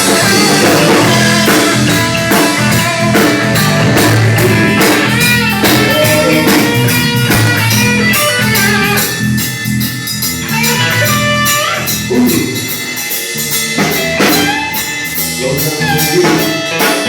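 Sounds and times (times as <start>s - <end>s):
drum beat with cymbals: 0.0s - 17.0s
electric guitar: 0.0s - 17.0s
walking bass line: 0.0s - 17.0s.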